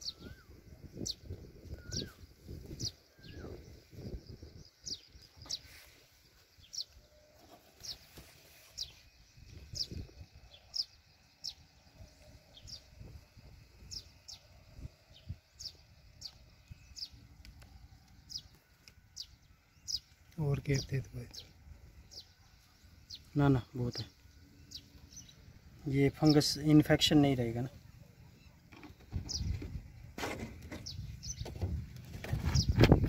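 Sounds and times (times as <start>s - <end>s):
bird chirping: 0.0s - 33.0s
low rumbling from handling and wind: 0.0s - 33.0s.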